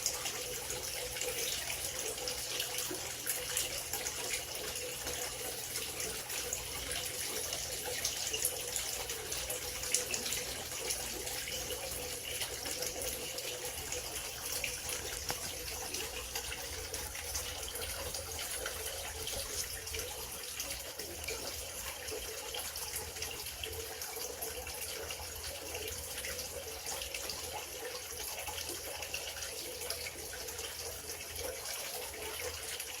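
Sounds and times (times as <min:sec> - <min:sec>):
water running with crackle: 0:00.0 - 0:33.0.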